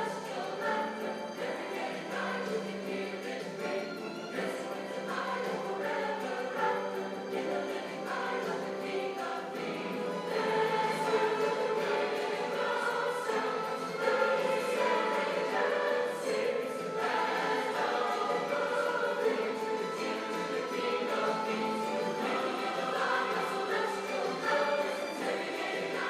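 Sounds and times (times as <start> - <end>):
choir singing sustained harmonies: 0.0 - 26.0.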